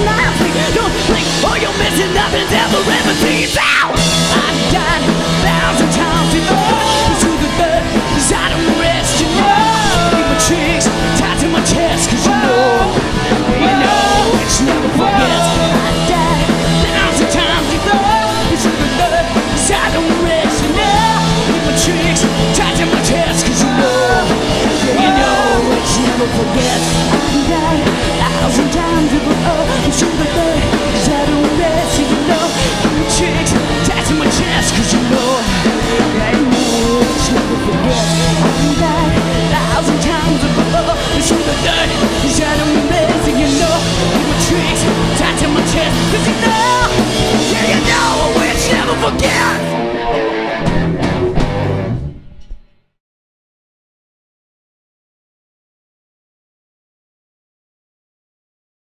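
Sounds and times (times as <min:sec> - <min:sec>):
singer yelling vocals: 0:00.0 - 0:49.9
live rock band playing: 0:00.0 - 0:52.6.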